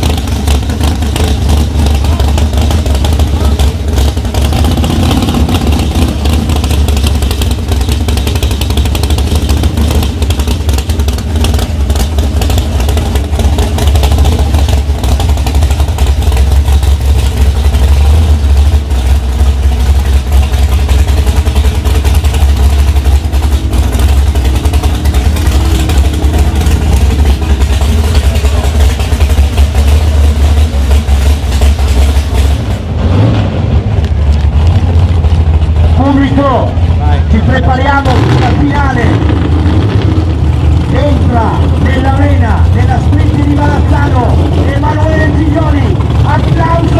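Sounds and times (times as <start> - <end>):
drag racing engine rumbling: 0.0 - 46.9
exhaust crackle: 0.0 - 46.9.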